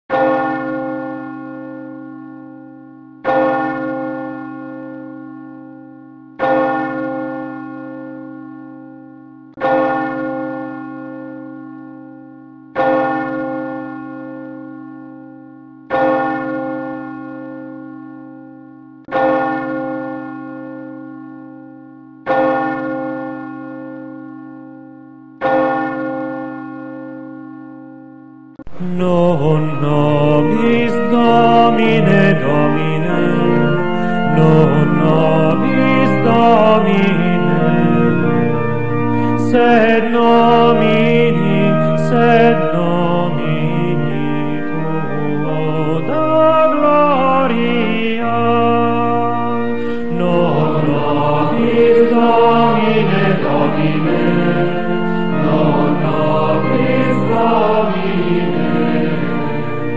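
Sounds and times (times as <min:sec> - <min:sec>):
church bell tolling: 0:00.1 - 0:59.9.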